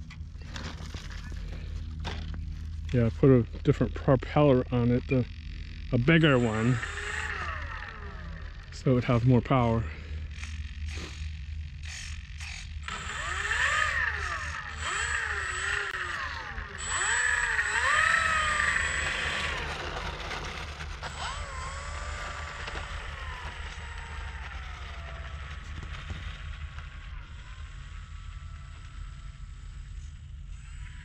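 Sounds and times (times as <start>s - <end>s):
model plane electric motor whining: 0.0s - 3.2s, 4.5s - 31.0s.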